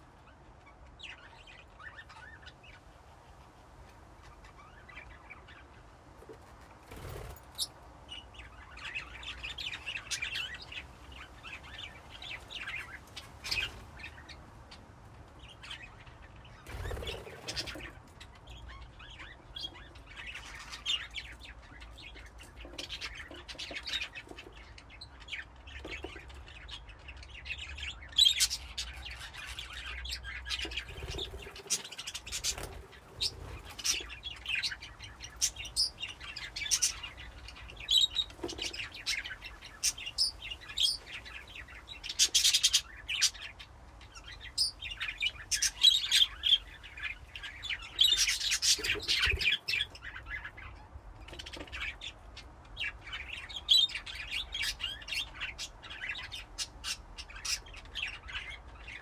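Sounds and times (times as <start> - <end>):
budgerigars chirping and chattering: 0.6 - 2.9, 6.9 - 14.8, 15.4 - 59.0.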